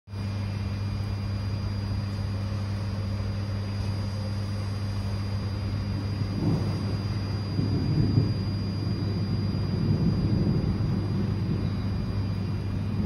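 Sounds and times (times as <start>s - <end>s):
faint high whine: 0.1s - 13.0s
heavy rain: 0.1s - 13.0s
low mechanical hum: 0.1s - 13.0s.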